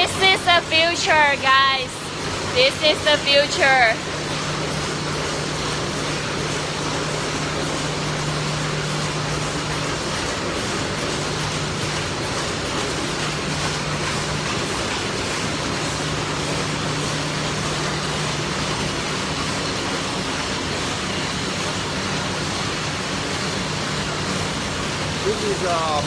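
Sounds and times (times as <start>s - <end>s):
constant low hum: 0.0s - 26.0s
factory machinery running: 0.0s - 26.0s.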